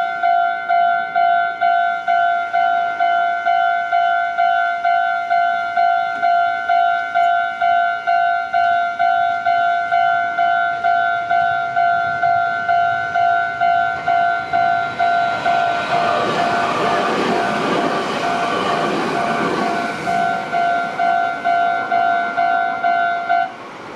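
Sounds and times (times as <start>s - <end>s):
level crossing bell ringing: 0.0s - 23.5s
train rumbling: 0.0s - 23.9s.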